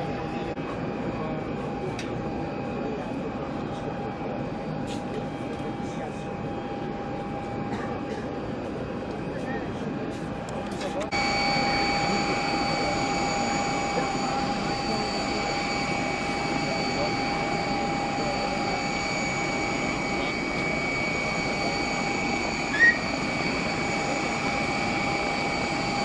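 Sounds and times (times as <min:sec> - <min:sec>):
jet turbine whine: 0:00.0 - 0:26.0.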